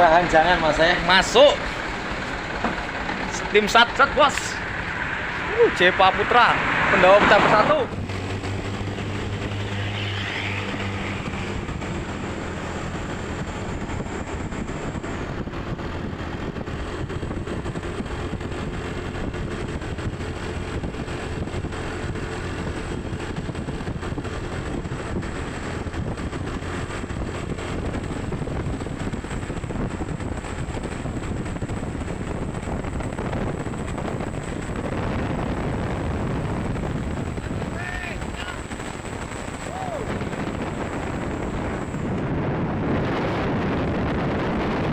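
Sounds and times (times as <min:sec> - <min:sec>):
vehicle engine: 0:00.0 - 0:44.9
wind noise: 0:00.0 - 0:44.9.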